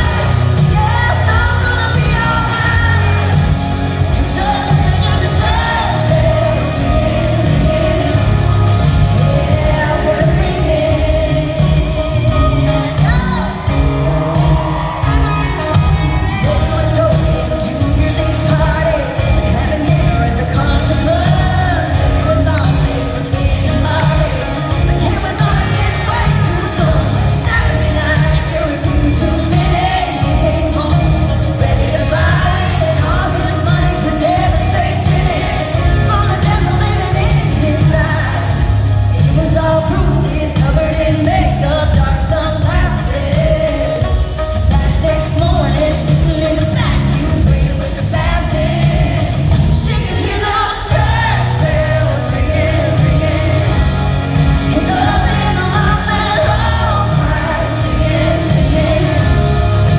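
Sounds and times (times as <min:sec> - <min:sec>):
live band playing: 0:00.0 - 0:59.9
woman singing: 0:00.0 - 0:59.9.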